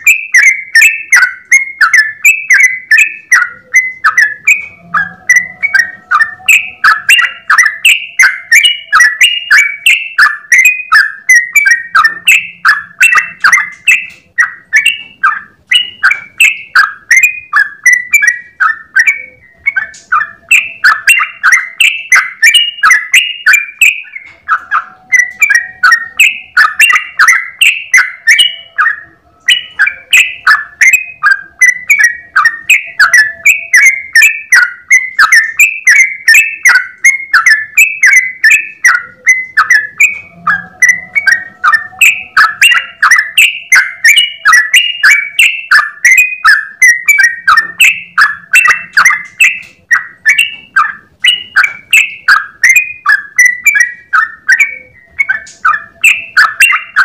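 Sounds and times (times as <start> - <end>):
bird chirping: 0.0 - 57.0.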